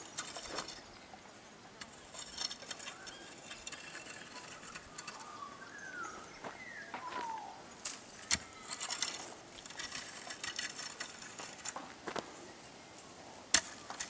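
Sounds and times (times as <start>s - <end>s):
rake scraping over dry soil: 0.0s - 1.1s, 1.8s - 6.6s, 7.2s - 14.0s.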